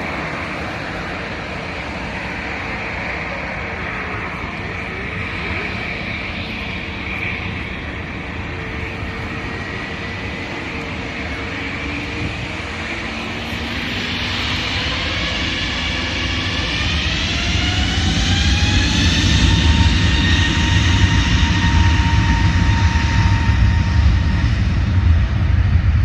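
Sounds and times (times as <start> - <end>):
airliner engines running: 0.0 - 26.0.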